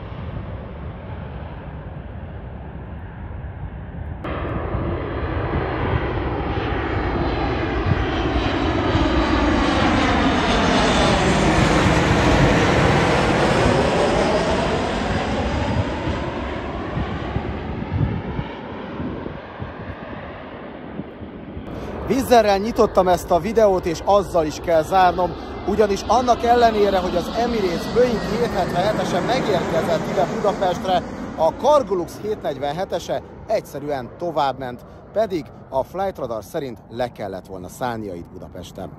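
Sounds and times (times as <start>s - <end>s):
distant jet sound: 0.0s - 38.9s
jet airliner flying overhead: 0.0s - 38.9s.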